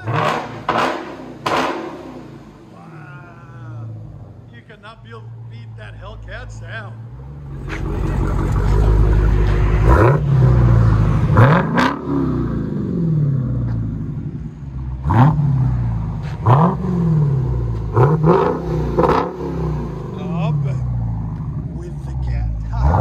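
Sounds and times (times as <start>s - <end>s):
car engine revving: 0.0s - 2.8s, 3.5s - 23.0s.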